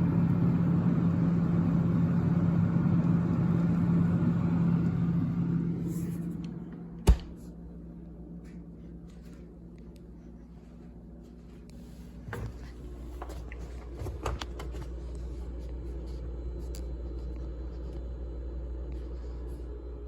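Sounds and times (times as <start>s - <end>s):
refrigerator humming: 0.0s - 20.0s.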